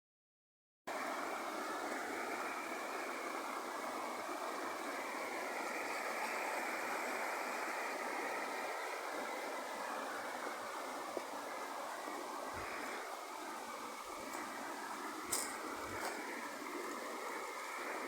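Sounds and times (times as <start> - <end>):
stream water rushing: 0.9 - 18.0.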